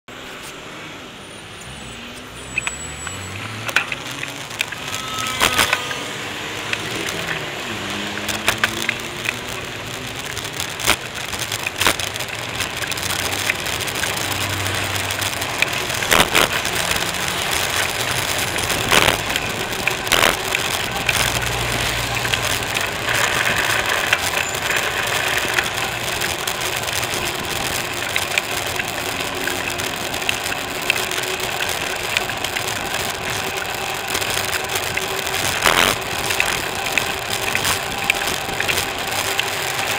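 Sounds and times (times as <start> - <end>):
road traffic: 0.0 - 39.9
bicycle tyres rolling on pavement: 1.6 - 39.9.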